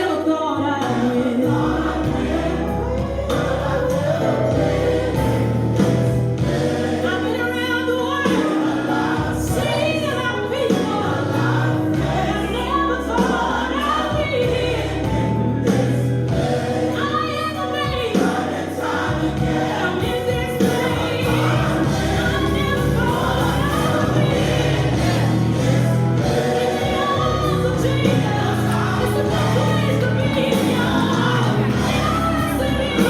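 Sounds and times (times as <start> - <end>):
gospel choir singing: 0.0 - 33.0
instrumental backing: 0.0 - 33.0.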